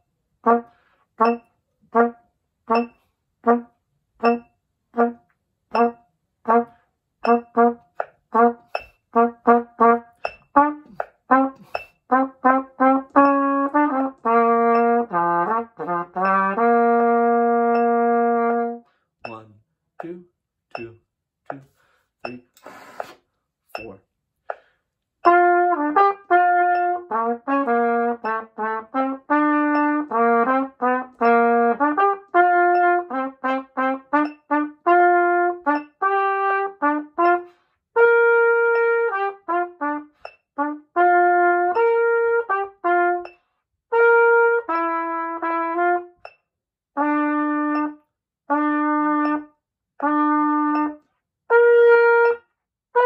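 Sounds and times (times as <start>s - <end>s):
solo trumpet playing: 0.0s - 18.9s, 25.2s - 43.3s, 43.9s - 46.2s, 47.0s - 53.0s.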